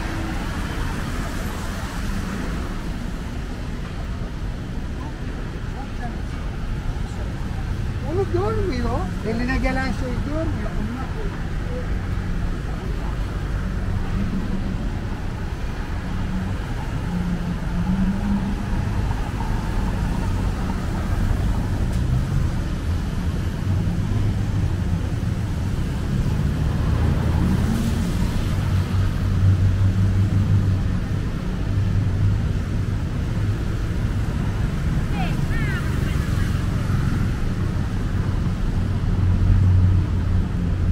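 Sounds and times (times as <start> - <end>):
vehicles passing: 0.0 - 40.9.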